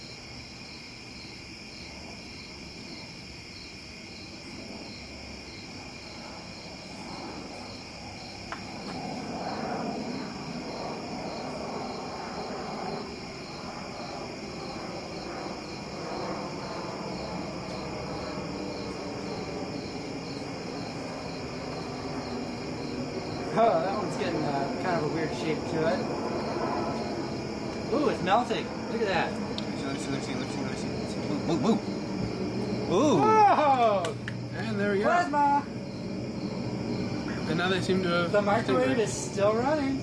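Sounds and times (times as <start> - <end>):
crackling hiss: 0.0 - 40.0
high pulsing buzz: 0.0 - 40.0.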